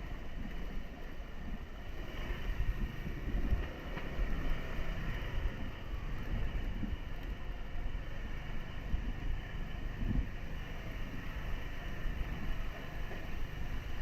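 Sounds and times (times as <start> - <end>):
motorcycle engine running: 0.0 - 14.0
wind rumble on microphone: 0.0 - 14.0.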